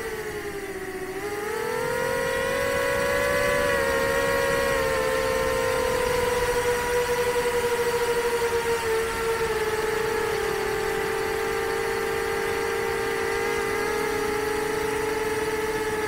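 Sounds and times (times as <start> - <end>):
quadcopter propellers whining: 0.0 - 16.0.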